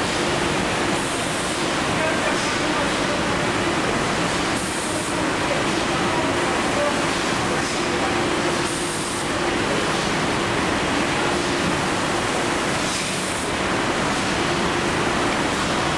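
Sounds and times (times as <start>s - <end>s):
bottling machinery hum: 0.0s - 15.9s.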